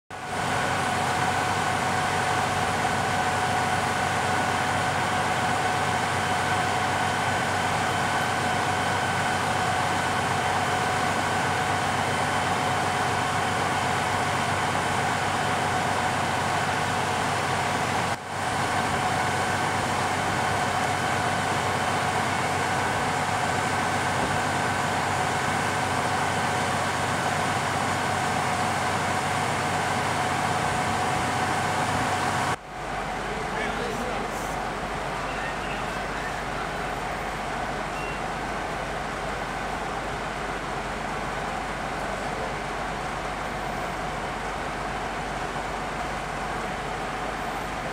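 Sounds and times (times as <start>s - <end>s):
machinery whine over low rumble: 0.2s - 47.9s.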